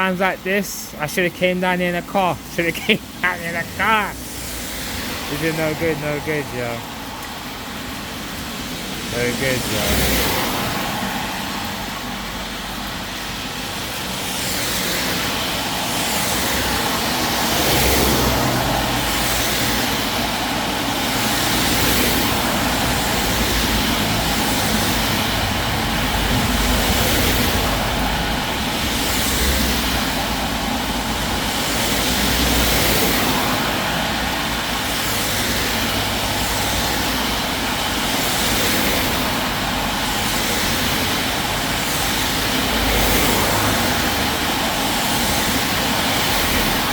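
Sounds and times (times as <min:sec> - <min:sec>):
cars passing on wet road: 0:00.0 - 0:46.9
rain falling: 0:00.0 - 0:46.9.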